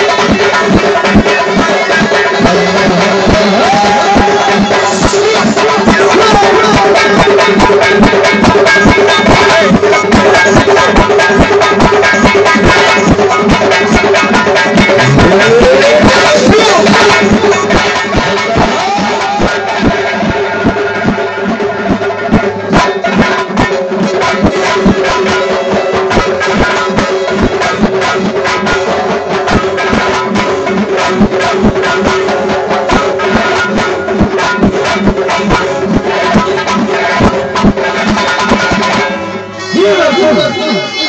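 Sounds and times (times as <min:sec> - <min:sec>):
goblet and frame drums: 0:00.0 - 0:41.0.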